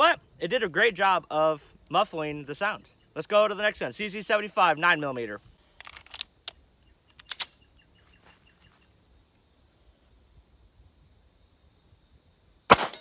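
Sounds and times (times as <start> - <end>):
insects humming: 0.0 - 12.8.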